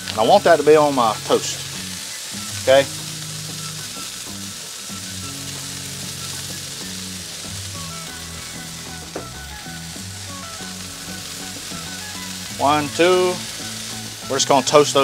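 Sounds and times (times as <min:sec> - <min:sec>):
patties sizzling on griddle: 0:00.0 - 0:15.0.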